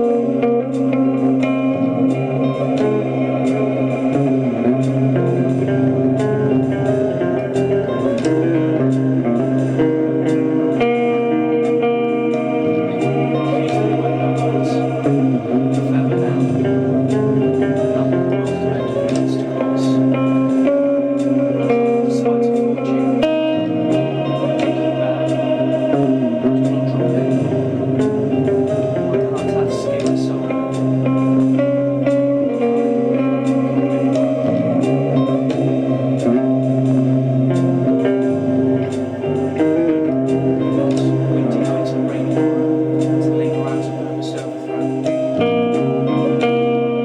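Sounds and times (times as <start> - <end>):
steady bass line: 0.0 - 47.0
sustained guitar notes: 0.0 - 47.0.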